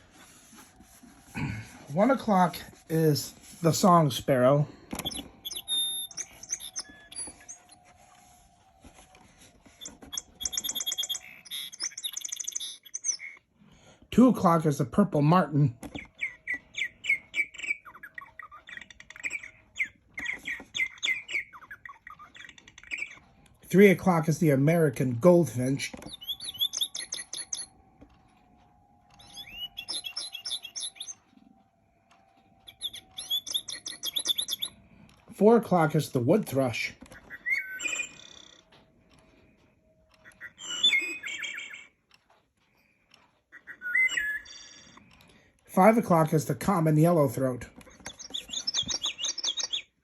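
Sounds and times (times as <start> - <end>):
recorded birdsong chirps: 0.3 - 50.0.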